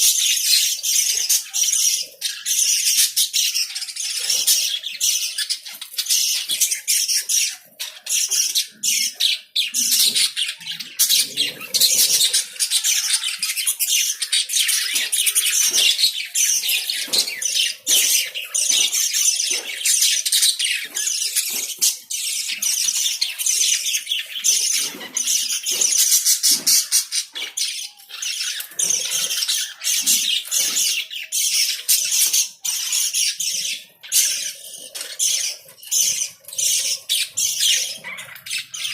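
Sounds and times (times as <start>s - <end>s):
lovebirds chirping and squawking: 0.0s - 38.9s.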